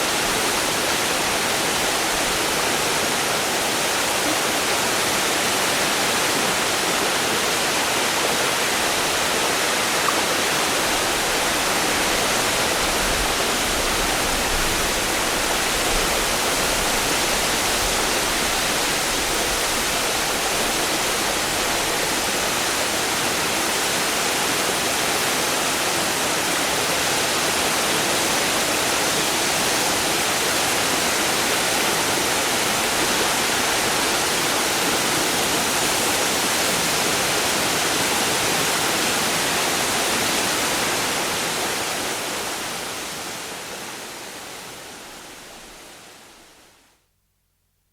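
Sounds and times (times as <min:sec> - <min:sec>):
waterfall splashing: 0:00.0 - 0:44.3.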